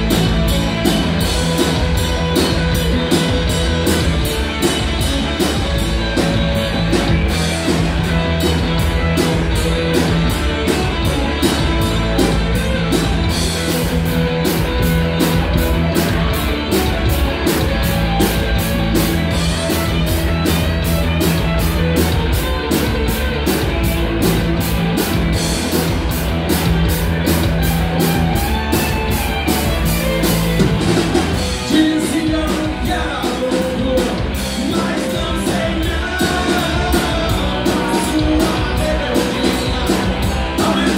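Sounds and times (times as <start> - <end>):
bass guitar: 0.0 - 40.9
distorted electric guitars: 0.0 - 40.9
drum kit: 0.0 - 40.9.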